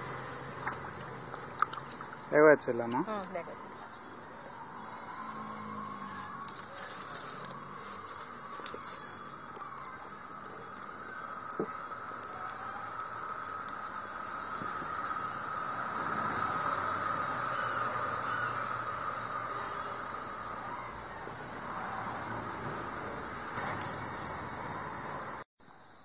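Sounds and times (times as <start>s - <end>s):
firewood crackling and popping: 0.0s - 25.4s
steady hiss: 0.0s - 26.0s.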